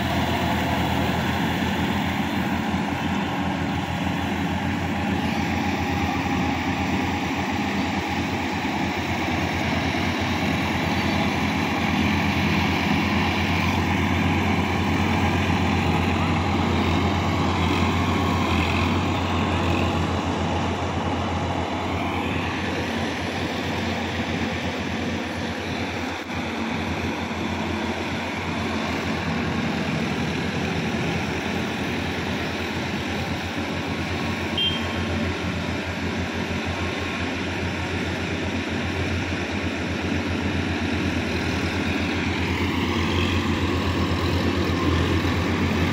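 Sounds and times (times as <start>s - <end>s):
tractor diesel engine drone: 0.0s - 45.9s.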